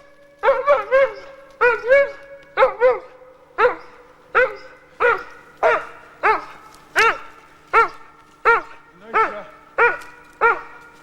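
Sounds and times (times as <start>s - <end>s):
dog barking: 0.4s - 10.9s.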